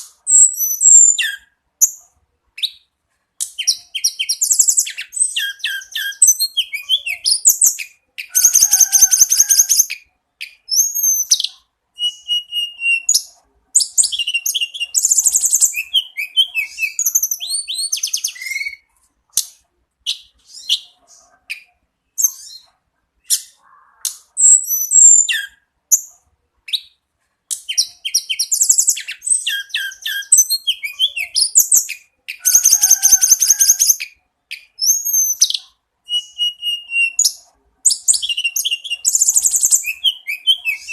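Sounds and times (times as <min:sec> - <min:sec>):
songbird singing trills: 0:00.0 - 0:02.0, 0:02.6 - 0:40.9.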